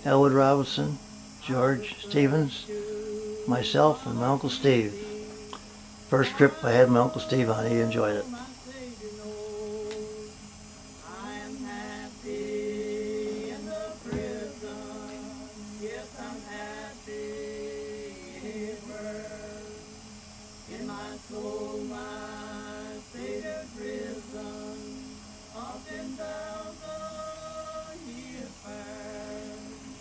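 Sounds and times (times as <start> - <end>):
song with singing voice: 0.8 - 30.0.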